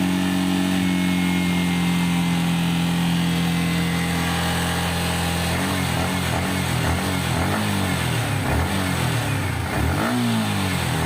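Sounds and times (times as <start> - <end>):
motorcycle engine at steady revs: 0.0 - 11.0.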